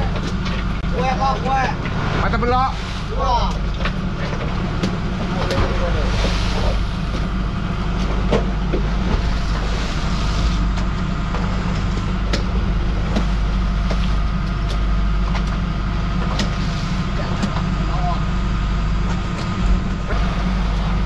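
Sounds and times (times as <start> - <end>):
diesel machinery droning: 0.0 - 21.0.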